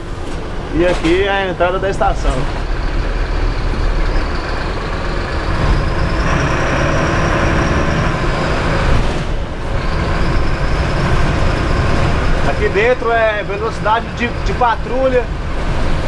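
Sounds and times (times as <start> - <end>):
bus diesel engine: 0.0 - 16.0
road noise: 0.0 - 16.0.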